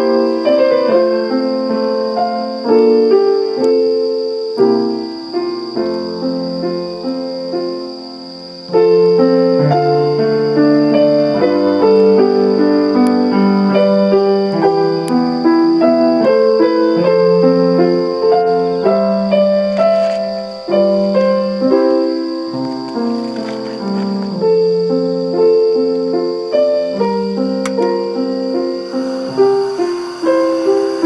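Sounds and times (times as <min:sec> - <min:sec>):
faint high whine: 0:00.0 - 0:31.0
gentle piano music: 0:00.0 - 0:31.0.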